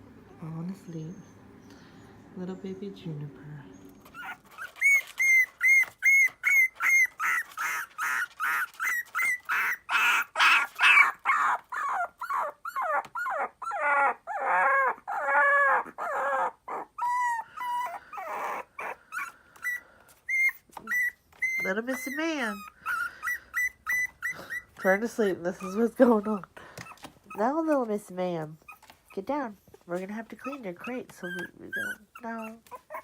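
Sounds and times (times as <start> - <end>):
puppy whimpering yelps: 3.9 - 27.8, 28.5 - 33.0.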